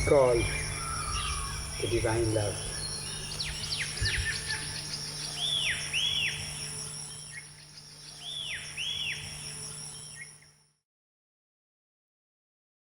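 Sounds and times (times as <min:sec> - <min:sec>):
small birds chirping: 0:00.0 - 0:10.4
steady high-pitched hum: 0:00.0 - 0:10.8.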